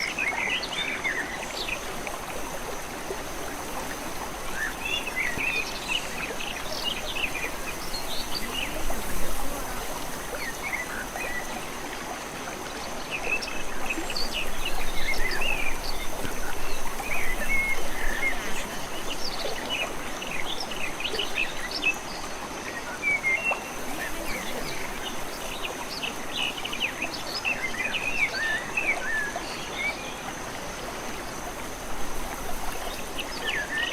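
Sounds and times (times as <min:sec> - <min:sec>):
running water: 0:00.0 - 0:33.9.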